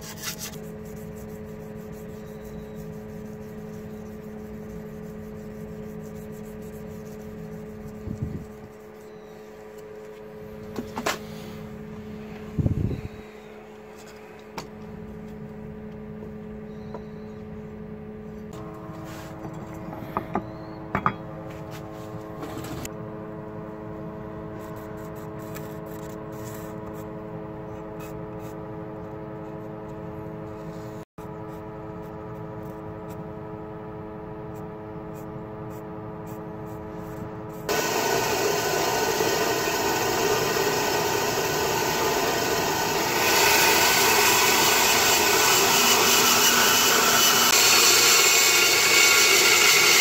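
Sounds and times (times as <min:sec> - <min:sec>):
mechanical hum: 0:00.0 - 0:50.0.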